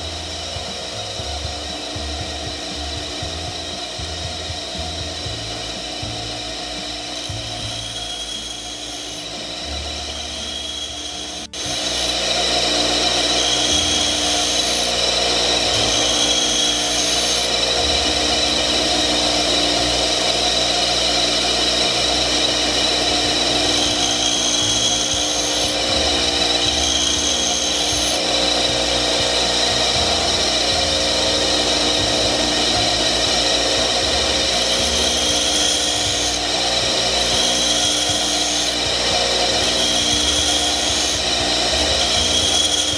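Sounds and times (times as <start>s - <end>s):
bench grinder grinding drill bit: 0.0s - 42.9s.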